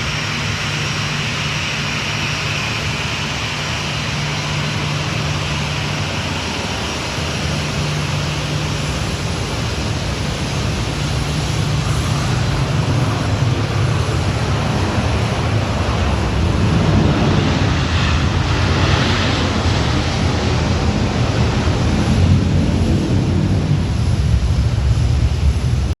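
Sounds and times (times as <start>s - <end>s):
aircraft engines running: 0.0s - 26.0s.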